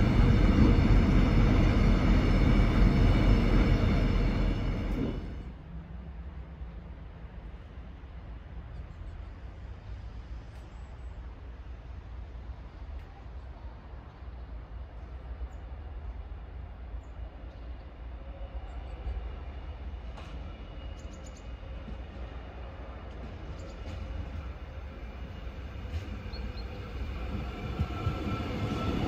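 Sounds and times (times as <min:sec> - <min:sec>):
diesel train approaching: 0:00.0 - 0:29.0.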